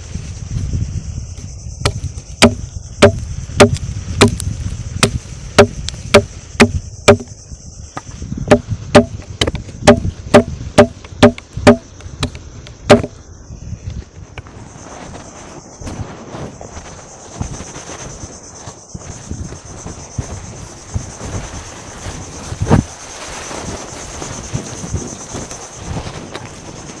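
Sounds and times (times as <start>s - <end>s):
high insect drone: 0.0s - 27.0s
wind on microphone: 0.0s - 27.0s.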